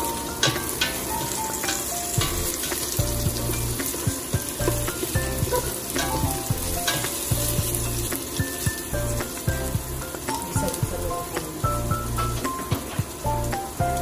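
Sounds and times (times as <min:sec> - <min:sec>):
background music: 0:00.0 - 0:14.0
food sizzling in hot oil: 0:00.0 - 0:14.0.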